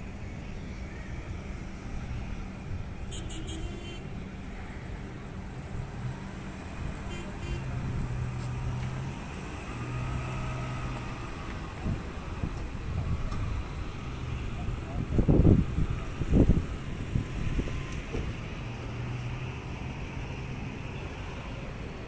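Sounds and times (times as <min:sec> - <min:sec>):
traffic rumble and idling engines: 0:00.0 - 0:22.0.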